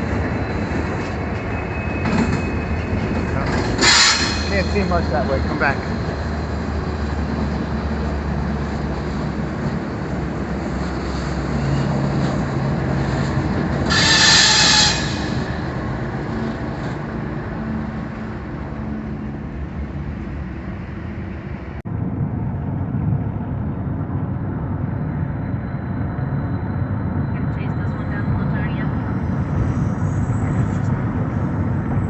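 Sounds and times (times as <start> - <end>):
freight train rumbling: 0.0 - 32.0.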